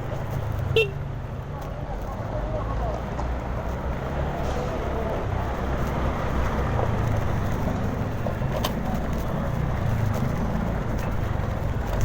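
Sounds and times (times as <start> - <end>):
scooter engine and road rumble: 0.0 - 12.0.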